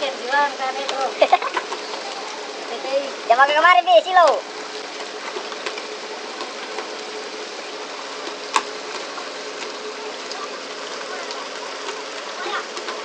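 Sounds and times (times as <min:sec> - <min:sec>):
boat engine running: 0:00.0 - 0:13.0
rushing water: 0:00.0 - 0:13.0.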